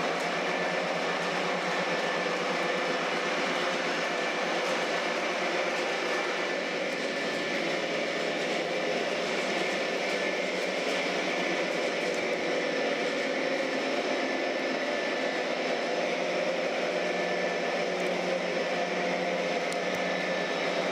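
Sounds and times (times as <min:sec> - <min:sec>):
model train diesel engine sound: 0:00.0 - 0:20.9.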